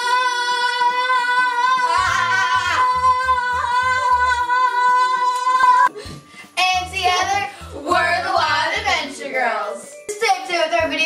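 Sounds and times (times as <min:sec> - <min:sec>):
backing music with pulsing bass: 0:00.0 - 0:09.6.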